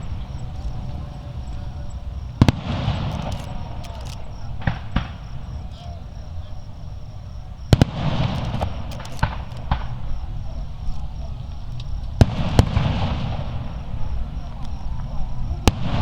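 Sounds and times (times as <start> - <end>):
fireworks bursting: 0.0 - 16.0
fireworks crackle: 0.0 - 16.0.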